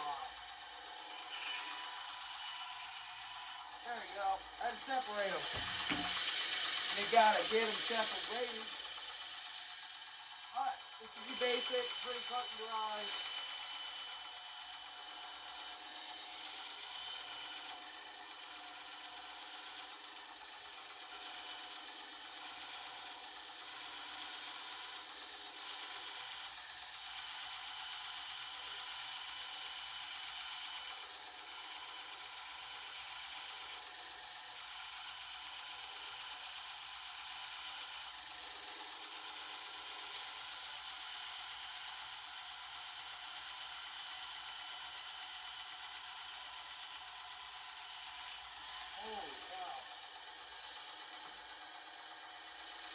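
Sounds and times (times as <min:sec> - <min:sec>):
bandsaw cutting with high whine: 0:00.0 - 0:52.9.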